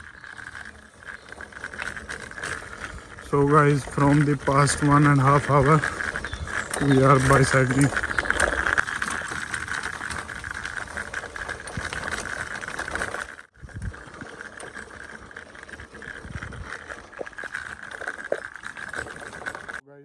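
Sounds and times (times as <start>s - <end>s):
bicycle clicks and rattles: 0.0s - 19.8s
bicycle tyres on rough path: 0.0s - 19.9s.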